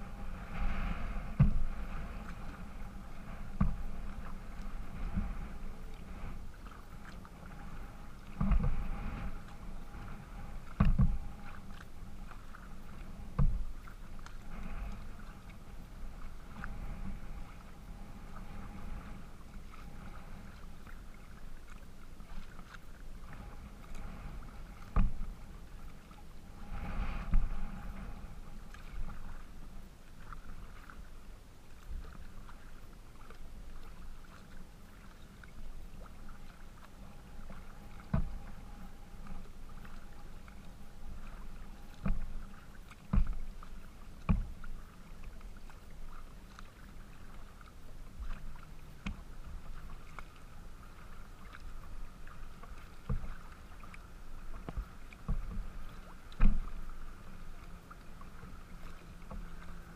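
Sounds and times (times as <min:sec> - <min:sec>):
waves lapping against kayak hull: 0:00.0 - 0:59.9.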